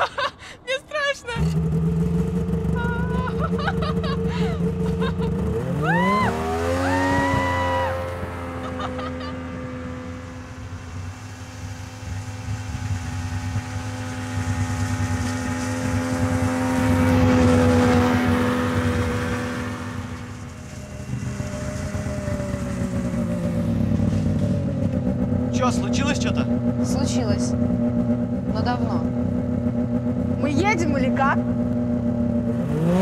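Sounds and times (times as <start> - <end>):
snowmobile engine passing: 1.0 - 33.0.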